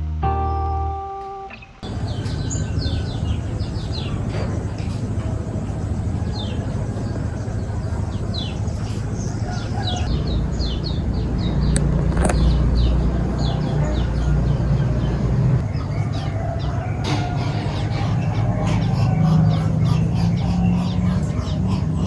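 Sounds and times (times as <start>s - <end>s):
small birds chirping: 1.6s - 22.0s
low rumble: 1.8s - 22.0s.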